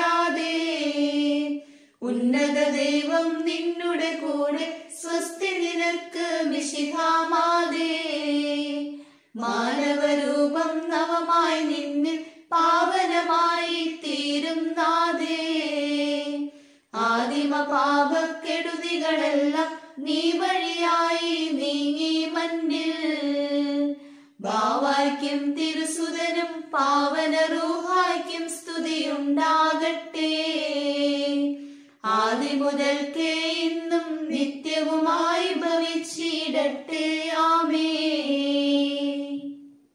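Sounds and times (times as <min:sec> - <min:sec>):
person singing a hymn unaccompanied: 0:00.0 - 0:39.7.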